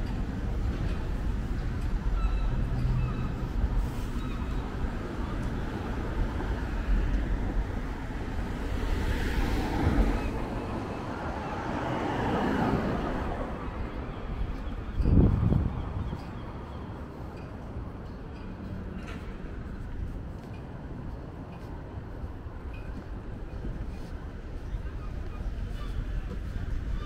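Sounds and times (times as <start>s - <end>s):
cars passing on street: 0.0s - 27.0s.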